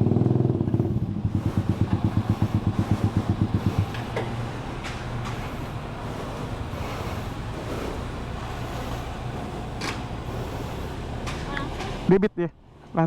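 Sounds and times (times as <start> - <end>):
vehicle engine idling: 0.0 - 13.0
wind: 0.0 - 13.0.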